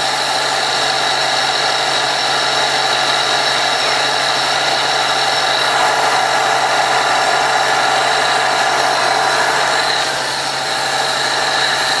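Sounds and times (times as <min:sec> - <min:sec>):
motor running steadily: 0:00.0 - 0:12.0.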